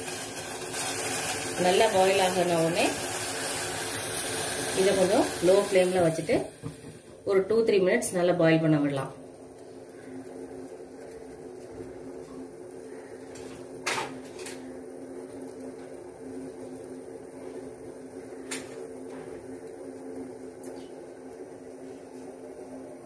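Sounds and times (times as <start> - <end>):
saucepan simmering on gas flame: 0.0 - 23.0.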